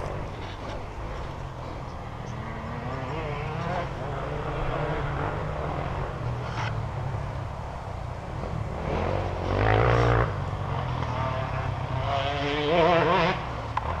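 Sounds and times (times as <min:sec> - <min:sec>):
dirt bike engine revving: 0:00.0 - 0:07.6, 0:08.3 - 0:14.0.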